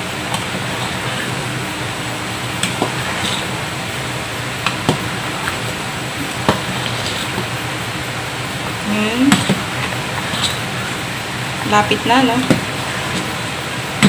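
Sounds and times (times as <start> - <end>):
ladle stirring bubbling porridge: 0.0 - 14.0
steady hiss: 0.0 - 14.0.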